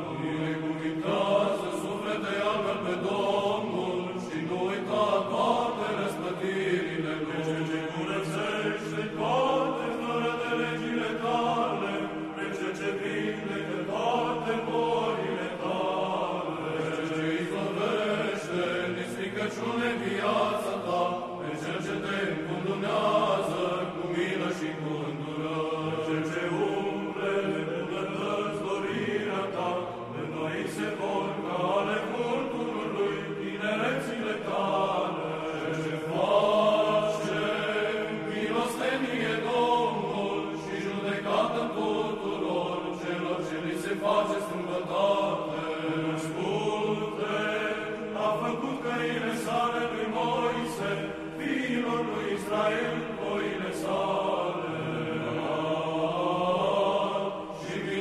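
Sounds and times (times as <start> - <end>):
voices chanting: 0.0 - 58.0.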